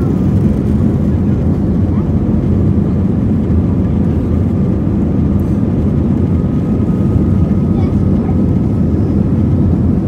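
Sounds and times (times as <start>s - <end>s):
jet engine rumble: 0.0s - 10.0s.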